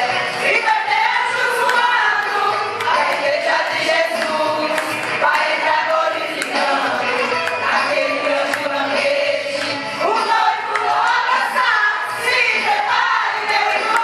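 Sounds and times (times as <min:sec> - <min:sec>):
women's choir singing: 0:00.0 - 0:14.0.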